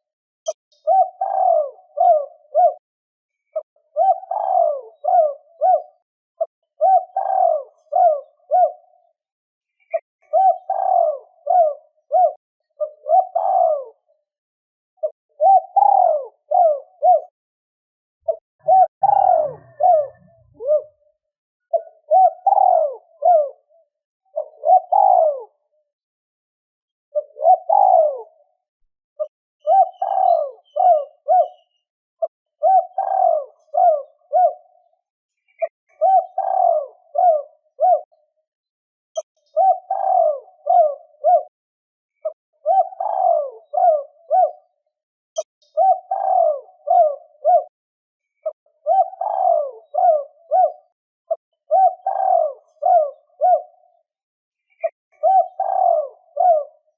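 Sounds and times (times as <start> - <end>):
dove cooing: 0.7 - 2.8, 3.5 - 9.1, 9.8 - 14.2, 15.0 - 17.4, 18.2 - 25.7, 27.1 - 28.6, 29.2 - 38.3, 39.2 - 41.6, 42.2 - 44.8, 45.4 - 47.8, 48.4 - 56.9.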